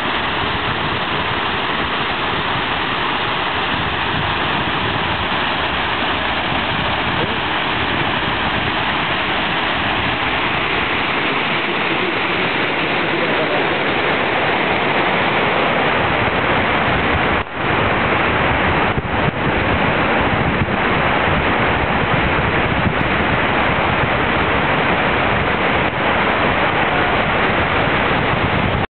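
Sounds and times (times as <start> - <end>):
sewage water pouring into river: 0.0 - 28.9.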